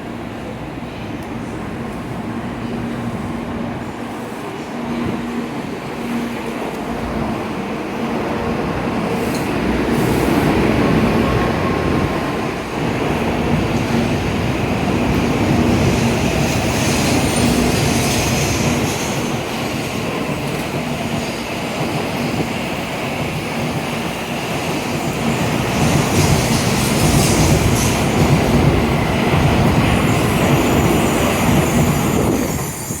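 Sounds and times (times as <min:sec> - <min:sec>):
train running past: 0:00.0 - 0:33.0.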